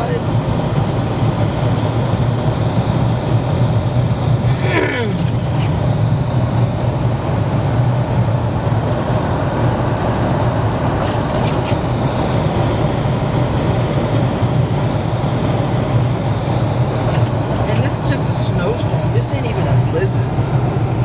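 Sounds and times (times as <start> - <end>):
car engine and tyre road noise: 0.0 - 21.0.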